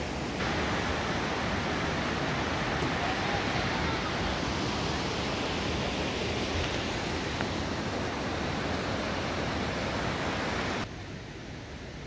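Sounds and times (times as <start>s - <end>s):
river rapids rushing: 0.0s - 10.9s.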